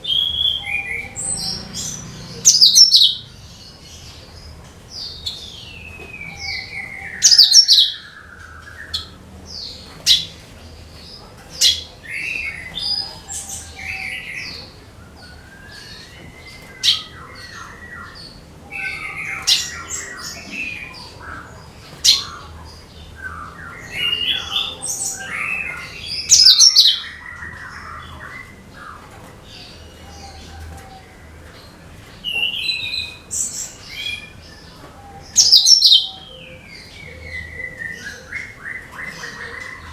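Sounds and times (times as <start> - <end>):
loud sharp bird calls: 0.0 - 39.9
songbird singing: 0.0 - 39.9.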